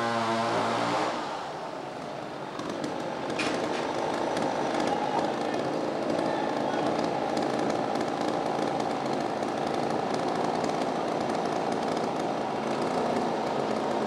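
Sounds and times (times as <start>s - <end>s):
mill machinery running: 2.5s - 14.0s.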